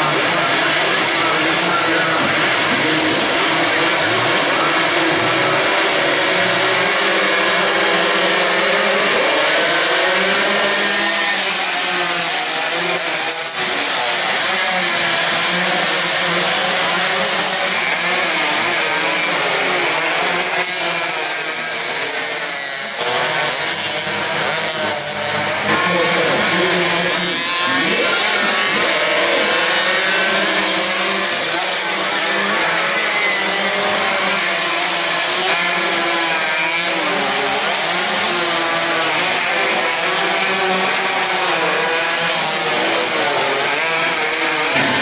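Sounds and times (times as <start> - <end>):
high-revving motorcycle engines: 0.0 - 45.0.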